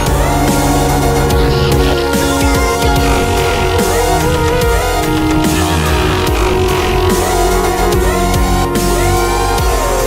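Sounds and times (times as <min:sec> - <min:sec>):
electronic music with synths: 0:00.0 - 0:10.0.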